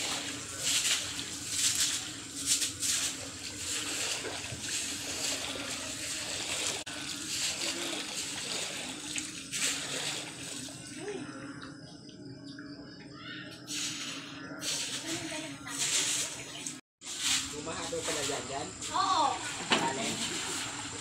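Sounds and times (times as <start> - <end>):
broom swishing water on tiles: 0.0 - 11.1, 13.6 - 21.0.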